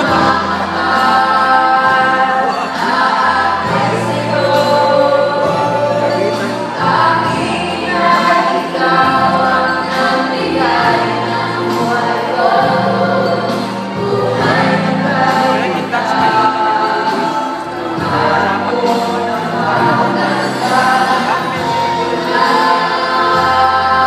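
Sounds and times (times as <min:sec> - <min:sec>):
adult soloists singing: 0:00.0 - 0:24.0
children's choir singing: 0:00.0 - 0:24.0
instrumental accompaniment: 0:00.0 - 0:24.0.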